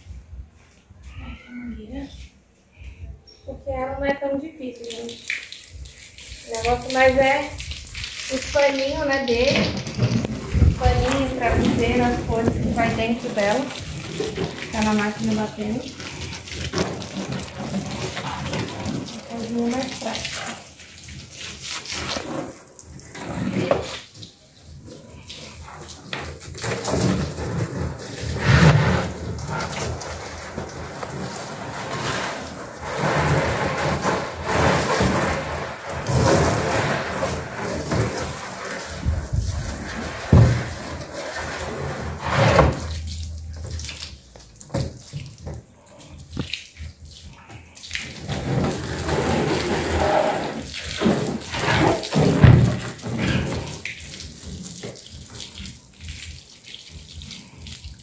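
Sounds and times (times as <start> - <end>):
hose water splashing on plastic: 4.7 - 58.0.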